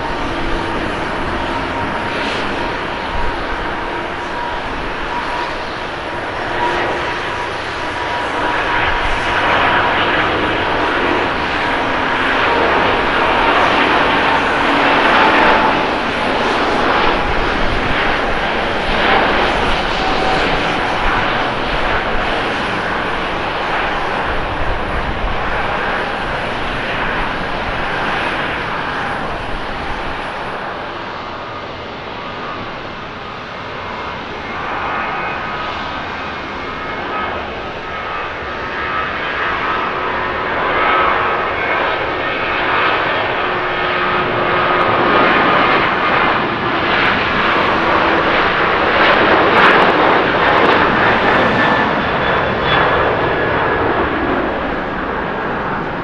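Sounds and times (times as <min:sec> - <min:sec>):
distant jet noise on runway: 0:00.0 - 0:56.0
jet airliner taking off: 0:00.0 - 0:56.0.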